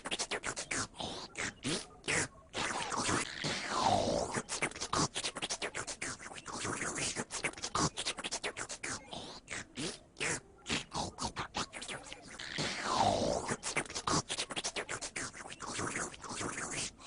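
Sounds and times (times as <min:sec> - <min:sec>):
rapid scratching clicks and sweeps: 0:00.0 - 0:09.0, 0:10.2 - 0:17.0.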